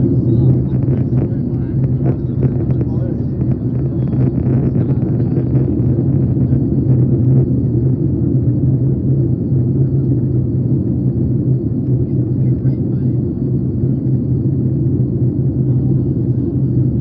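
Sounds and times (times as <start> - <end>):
airliner cabin rumble: 0.0 - 17.0
constant hum: 0.0 - 17.0.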